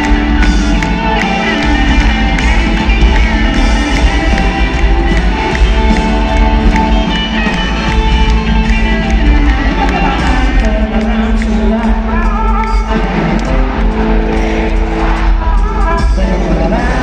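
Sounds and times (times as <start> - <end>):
live rock band: 0.0 - 17.0.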